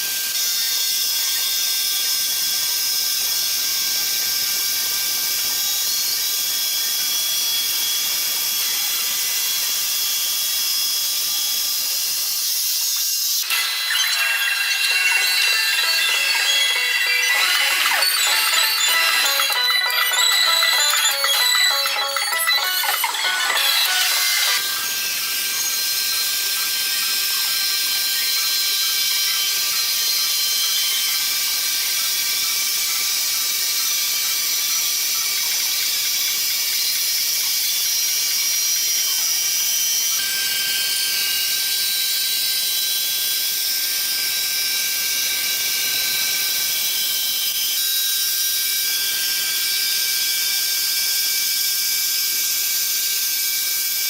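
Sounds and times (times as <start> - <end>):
sawmill machinery whine: 0.0 - 54.0.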